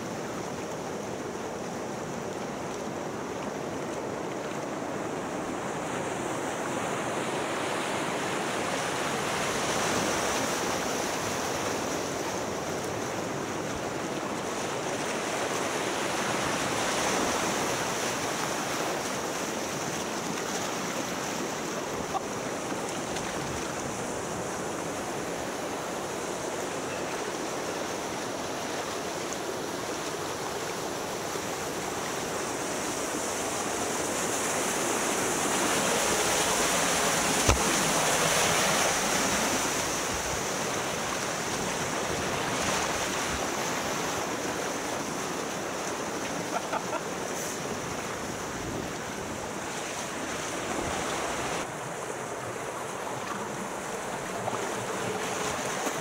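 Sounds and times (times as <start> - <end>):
rushing churning water: 0.0 - 56.0.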